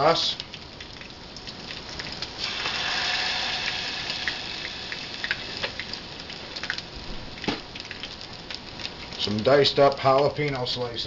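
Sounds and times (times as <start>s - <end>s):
chicken frying in hot oil: 0.0s - 11.0s
sauce pouring into saucepan hiss: 0.0s - 11.0s.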